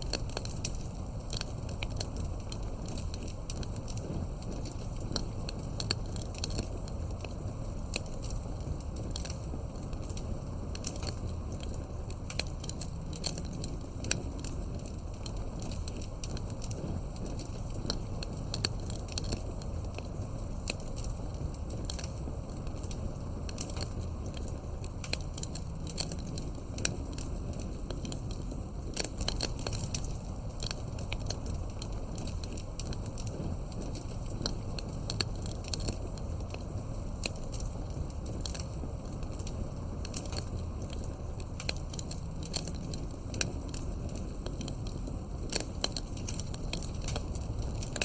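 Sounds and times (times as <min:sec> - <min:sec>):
campfire wood crackling: 0:00.0 - 0:48.0.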